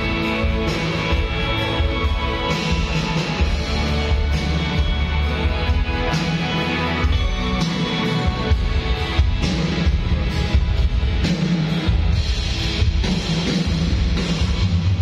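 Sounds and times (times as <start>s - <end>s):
loud live band music: 0.0s - 15.0s.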